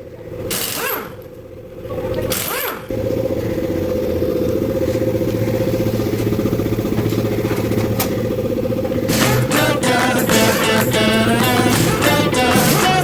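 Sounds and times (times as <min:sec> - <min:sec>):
machine motor humming and rattling: 0:00.0 - 0:13.0.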